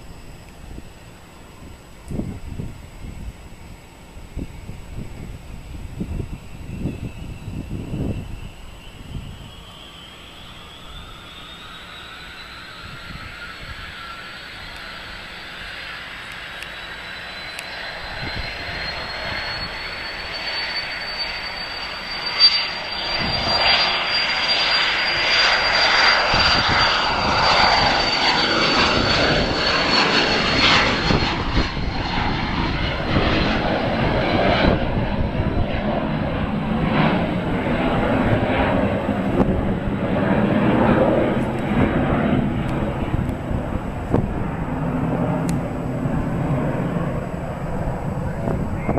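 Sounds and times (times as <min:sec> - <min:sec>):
jet engine roar: 0:00.0 - 0:48.9
jet engine whine: 0:00.0 - 0:48.9.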